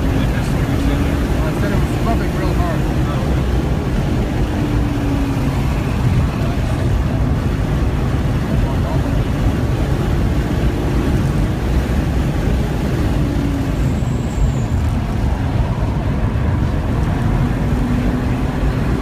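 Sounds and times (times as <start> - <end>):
car engine at speed: 0.0 - 19.0.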